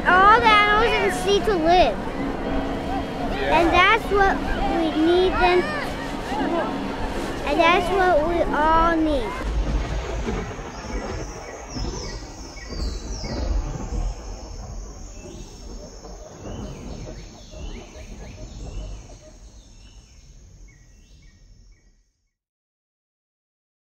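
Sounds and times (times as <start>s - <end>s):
low rumble and hiss: 0.0s - 21.9s.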